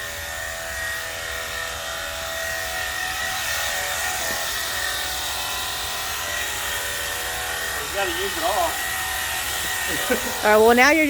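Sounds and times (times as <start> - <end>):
electric pump whine: 0.0 - 11.0
water spray hissing: 0.0 - 11.0.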